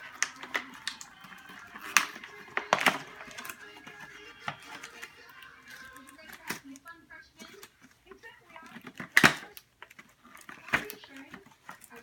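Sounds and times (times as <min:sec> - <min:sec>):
plastic toy clicks: 0:00.0 - 0:06.8, 0:08.5 - 0:12.0
packaging crinkling: 0:00.0 - 0:12.0.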